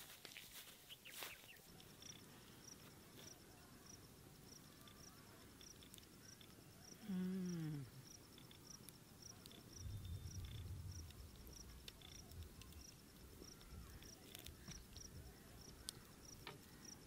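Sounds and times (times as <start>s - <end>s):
cricket chirping: 0.5s - 17.0s.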